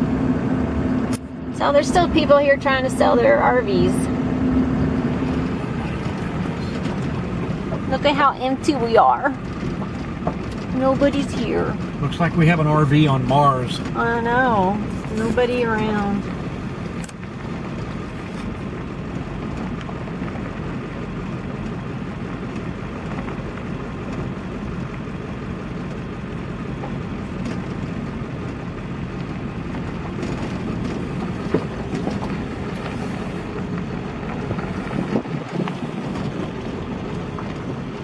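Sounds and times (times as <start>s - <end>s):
road and engine noise in cabin: 0.0s - 38.0s.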